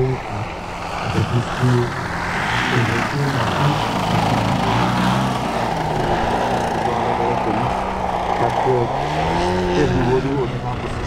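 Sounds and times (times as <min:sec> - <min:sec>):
model airplane engine droning: 0:00.0 - 0:11.0.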